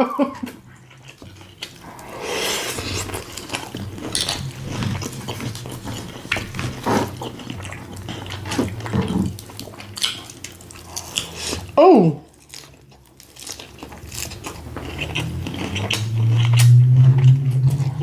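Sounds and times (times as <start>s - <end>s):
faint steady low hum: 0.0s - 18.0s
person chewing crunchy food: 0.4s - 18.0s.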